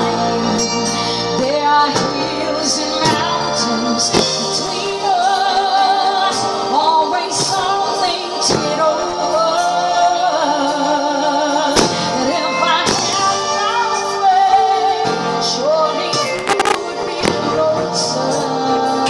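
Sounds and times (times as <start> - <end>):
instrumental backing music: 0.0 - 19.0
woman singing into microphone: 0.0 - 19.0.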